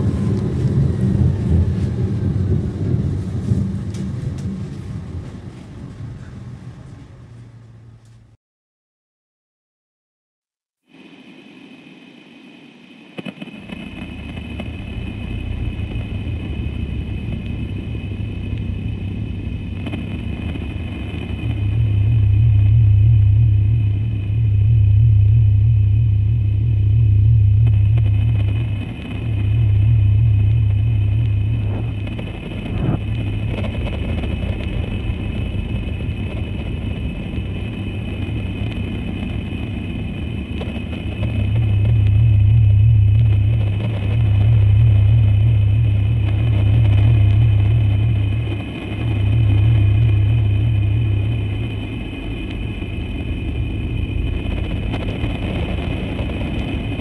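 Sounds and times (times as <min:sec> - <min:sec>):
deep throbbing low drone: 0:00.0 - 0:08.4, 0:13.2 - 0:57.0
high whining tones: 0:11.0 - 0:57.0.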